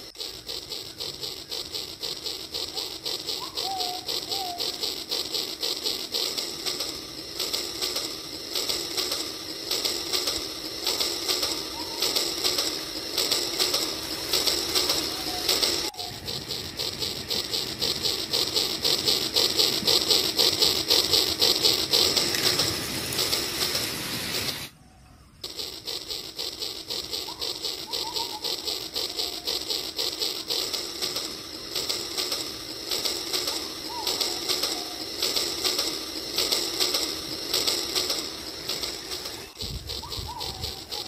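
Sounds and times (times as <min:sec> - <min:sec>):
toy train motor and gears whirring: 0:00.0 - 0:41.0.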